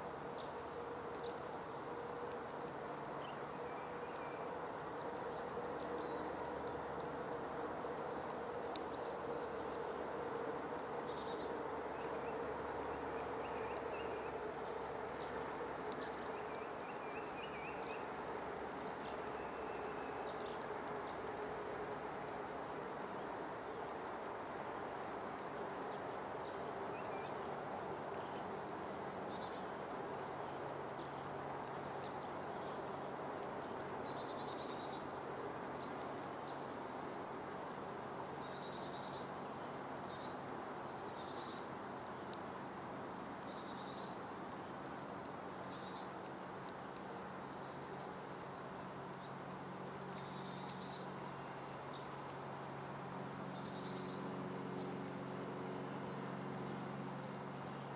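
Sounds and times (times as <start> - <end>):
crickets trilling: 0.0 - 57.9.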